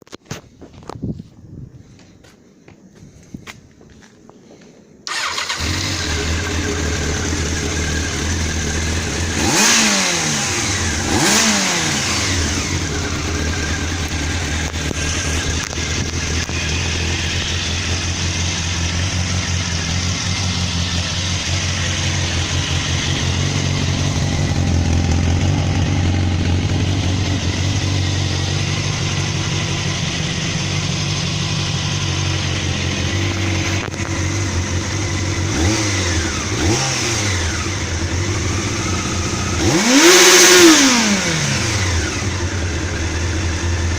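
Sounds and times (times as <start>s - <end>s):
motorcycle engine starting and idling: 5.0s - 43.9s
motorcycle engine revving: 5.1s - 43.9s.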